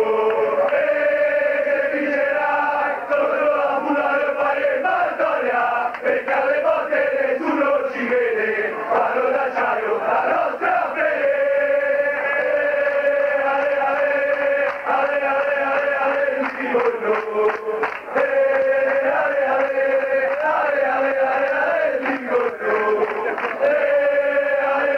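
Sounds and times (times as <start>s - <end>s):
crowd chanting: 0.0s - 24.9s.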